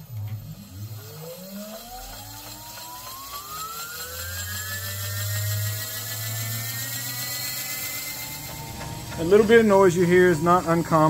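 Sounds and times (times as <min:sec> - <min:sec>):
low hum: 0:00.0 - 0:10.9
electric motor whining: 0:00.0 - 0:11.0.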